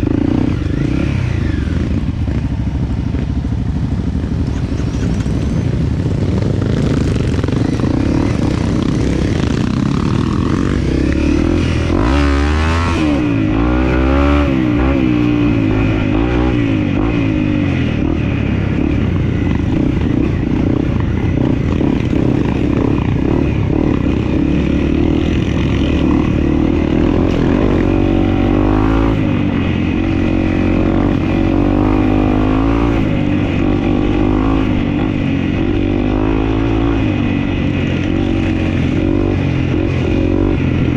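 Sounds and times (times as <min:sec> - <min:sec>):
dirt bike engine revving: 0:00.0 - 0:02.6, 0:04.7 - 0:40.9.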